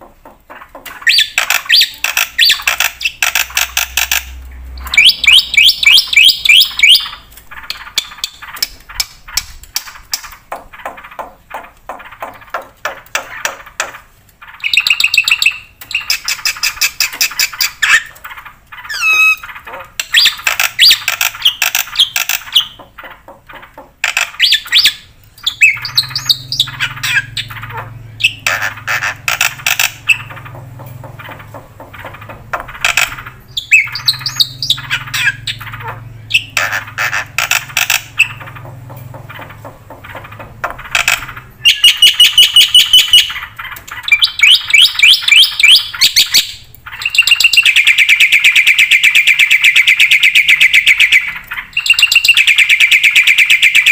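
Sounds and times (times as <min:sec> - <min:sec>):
starling singing: 0:00.3 - 0:53.9.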